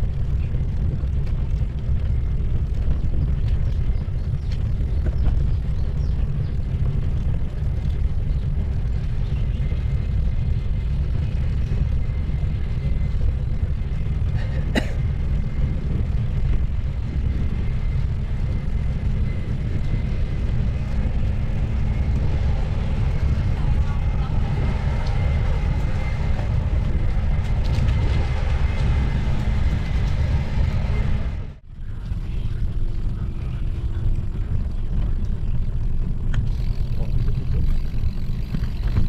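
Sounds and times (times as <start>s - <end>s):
bicycle tyres rolling on paving: 0.0s - 39.0s
wind buffeting microphone: 0.0s - 39.0s.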